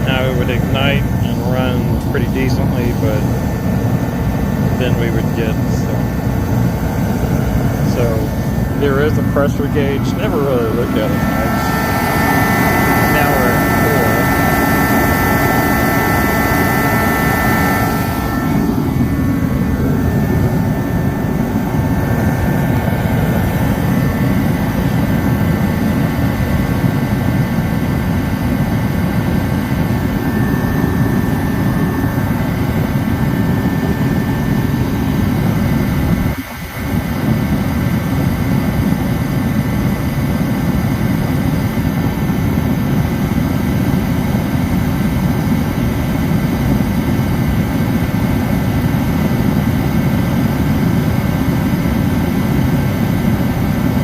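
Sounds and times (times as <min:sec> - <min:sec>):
heater fan and burner roar: 0:00.0 - 0:54.0
high whine: 0:00.0 - 0:54.0.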